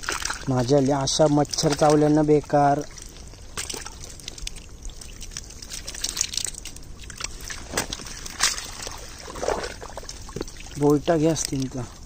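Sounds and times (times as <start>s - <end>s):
creek water sloshing and splashing: 0.0s - 12.0s.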